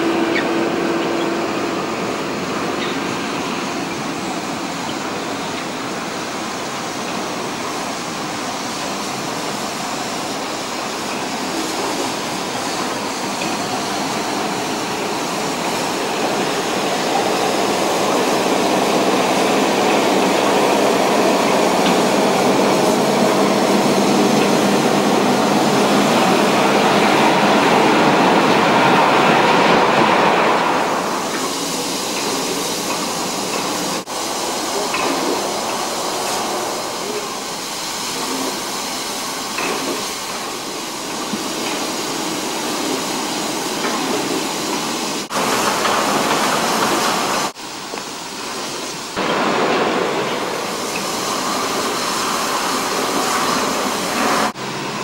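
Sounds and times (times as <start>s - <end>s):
steam train rumbling: 0.0s - 55.0s.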